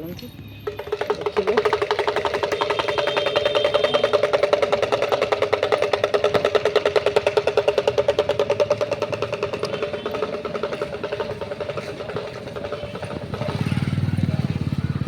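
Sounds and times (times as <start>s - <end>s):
small motorcycle engine running: 0.4s - 15.0s.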